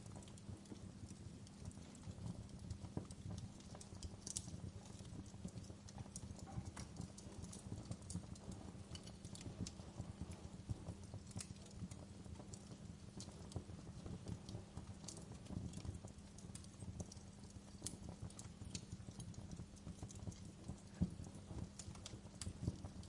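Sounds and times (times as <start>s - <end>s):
campfire crackles and pops: 0.0s - 23.0s
low steady fire rumble: 0.0s - 23.0s.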